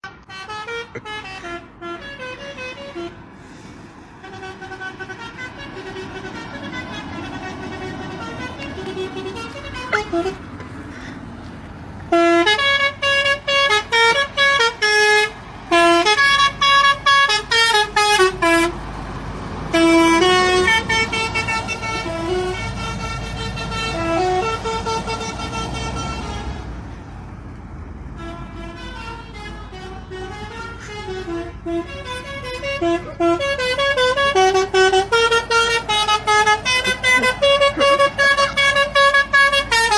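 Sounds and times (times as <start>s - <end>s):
vehicle horn playing a tune: 0.0s - 3.3s, 4.2s - 11.1s, 12.1s - 18.8s, 19.7s - 26.7s, 28.2s - 39.9s
road noise: 0.0s - 39.9s.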